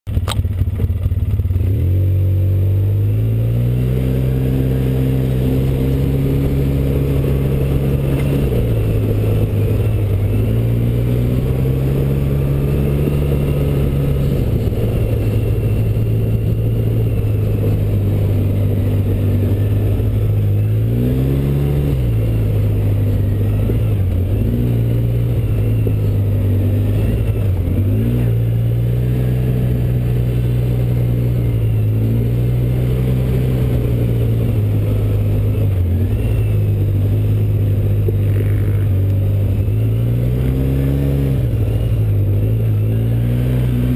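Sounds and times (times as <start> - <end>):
quad engine running: 0.0 - 43.9.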